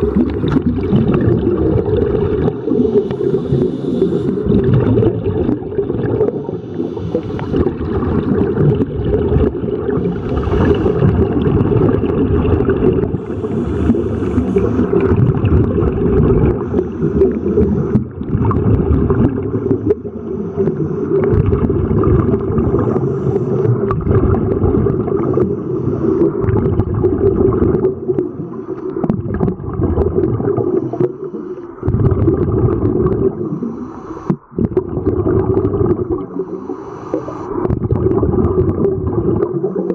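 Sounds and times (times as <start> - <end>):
muffled underwater water gurgle: 0.0 - 39.9.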